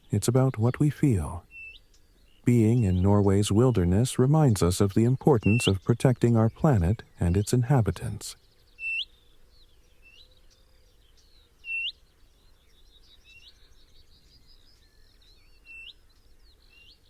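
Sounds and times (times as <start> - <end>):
faint bird chirps and twitters: 0.0 - 17.0.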